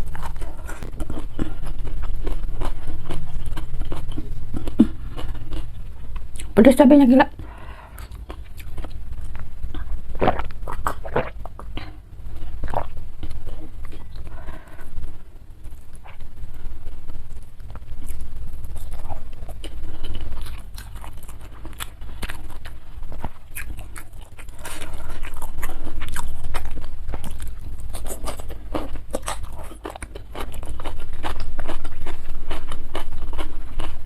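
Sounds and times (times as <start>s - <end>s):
chewing and crunching food: 0.0s - 6.6s, 7.6s - 14.9s, 17.3s - 34.0s.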